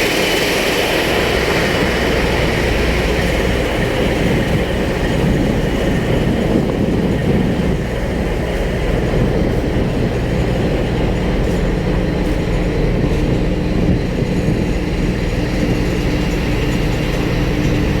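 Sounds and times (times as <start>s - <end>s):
ship diesel engines rumbling: 0.0s - 18.0s.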